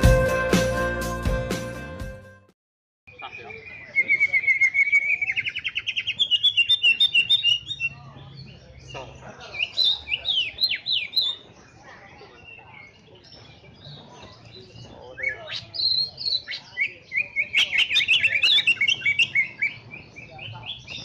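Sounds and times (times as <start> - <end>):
birds chirping and chattering: 3.1 - 21.0.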